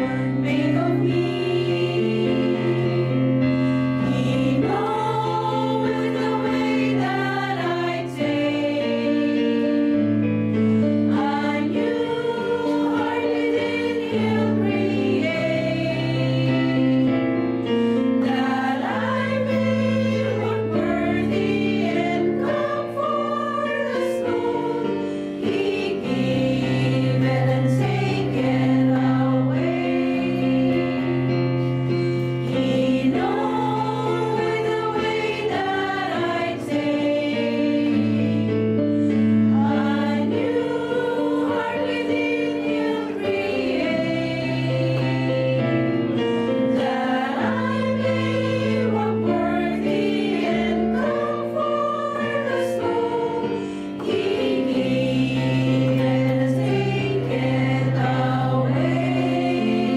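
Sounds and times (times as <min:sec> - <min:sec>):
women's choir singing a hymn: 0:00.0 - 0:59.9.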